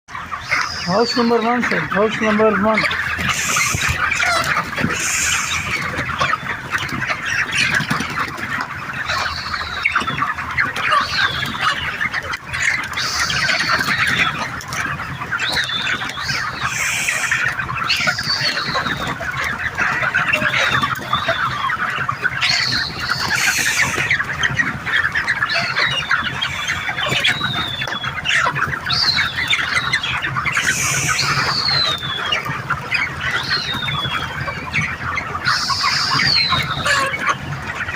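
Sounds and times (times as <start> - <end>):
chickens clucking: 0.1 - 37.9
high falling peeps: 0.1 - 37.9.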